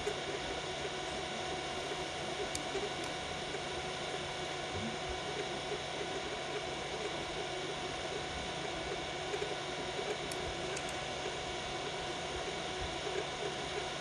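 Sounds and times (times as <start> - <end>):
printer fans and motors whirring: 0.0 - 14.0.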